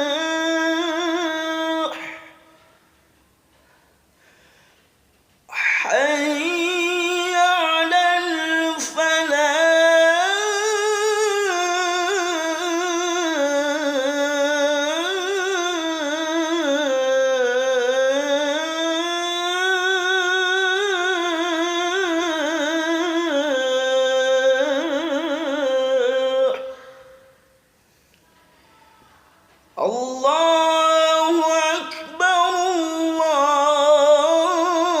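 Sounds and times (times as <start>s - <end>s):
man chanting call to prayer: 0.0s - 2.8s, 5.5s - 27.6s, 28.7s - 35.0s.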